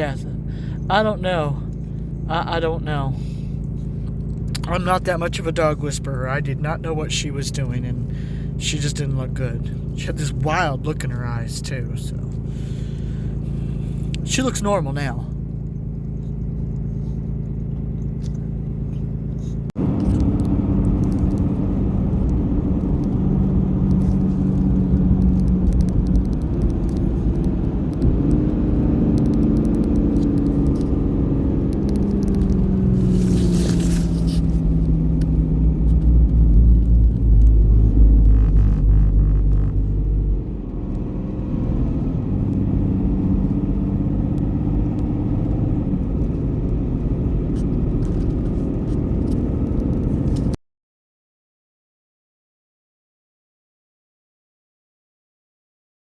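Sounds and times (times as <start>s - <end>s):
heavy low rumble: 0.0s - 50.6s
truck engine accelerating: 0.0s - 50.6s.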